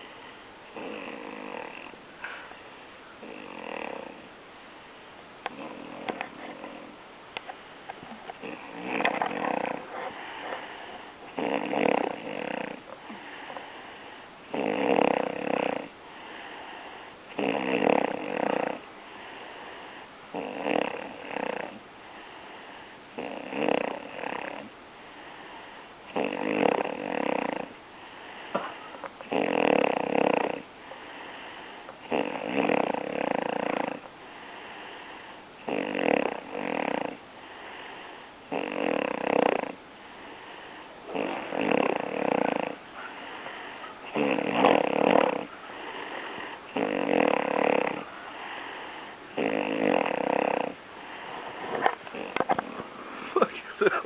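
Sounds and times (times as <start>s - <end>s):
faint breathing: 0.0s - 5.0s, 5.6s - 14.5s, 15.2s - 17.4s, 18.4s - 20.3s, 21.8s - 23.2s, 24.7s - 26.2s, 27.6s - 29.3s, 30.6s - 32.4s, 33.1s - 35.7s, 36.4s - 38.5s, 39.7s - 54.0s
loud snoring: 0.7s - 2.4s, 3.2s - 4.3s, 5.4s - 7.0s, 8.3s - 19.5s, 20.3s - 21.8s, 23.1s - 24.7s, 26.1s - 27.8s, 28.5s - 52.7s.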